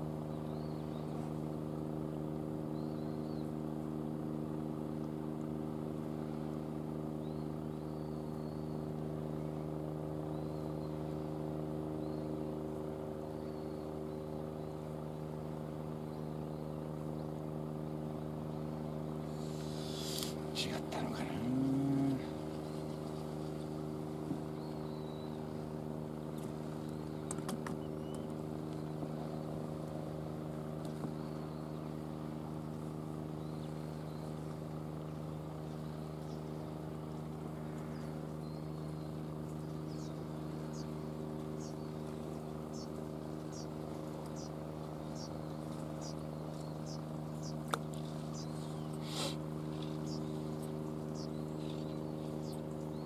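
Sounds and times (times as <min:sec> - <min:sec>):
low engine hum: 0:00.0 - 0:53.0.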